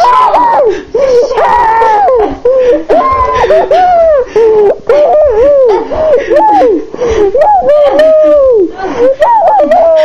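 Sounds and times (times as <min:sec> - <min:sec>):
girl crying and wailing: 0:00.0 - 0:10.0.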